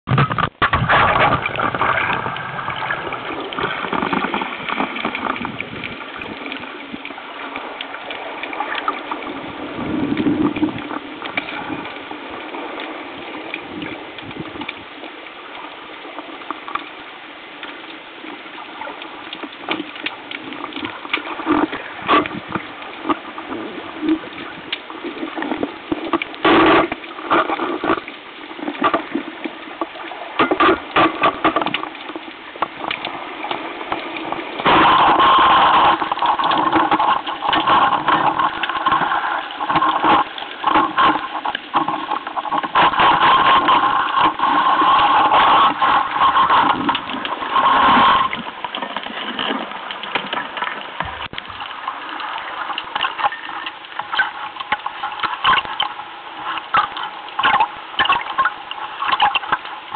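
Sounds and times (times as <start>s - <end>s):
underwater rush of water: 0.0s - 59.9s.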